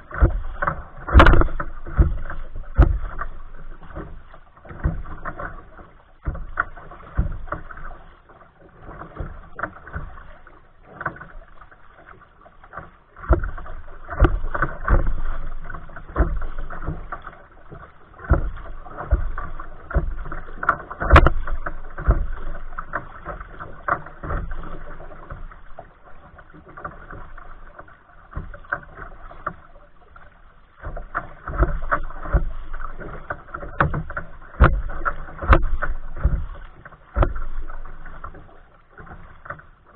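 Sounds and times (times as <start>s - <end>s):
water splashing against hull: 0.0s - 39.9s.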